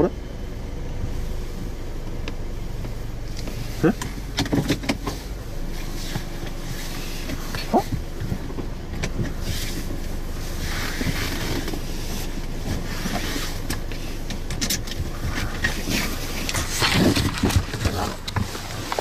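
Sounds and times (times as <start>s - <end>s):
low rumble and hiss: 0.0s - 19.0s
rustling: 1.1s - 19.0s.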